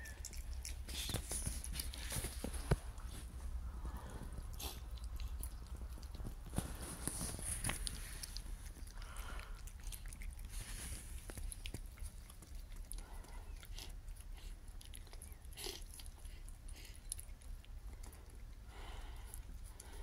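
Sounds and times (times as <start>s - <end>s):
kittens chewing and licking: 0.0s - 20.0s.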